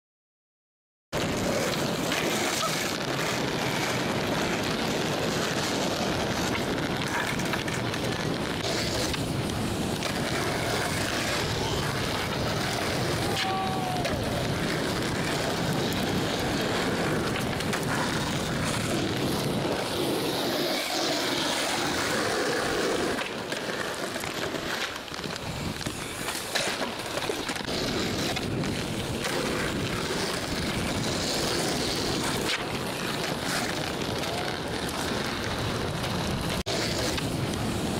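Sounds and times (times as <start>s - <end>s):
skateboard wheels rolling on asphalt: 1.1s - 37.9s
skateboard clacks: 1.2s - 37.9s.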